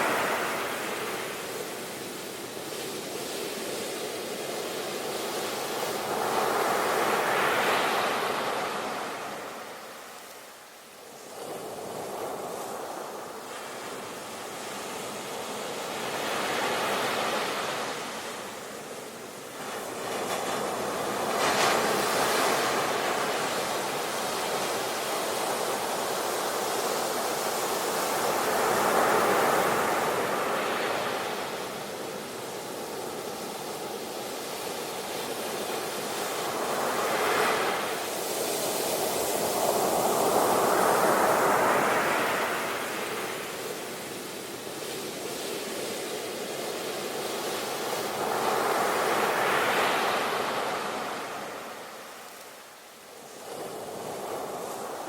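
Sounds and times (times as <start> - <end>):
ocean waves washing ashore: 0.0 - 55.0
steady hiss of surf: 0.0 - 55.0.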